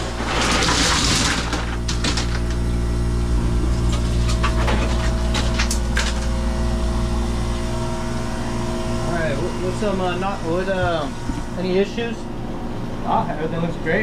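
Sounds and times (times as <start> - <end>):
ice machine humming: 0.0 - 14.0.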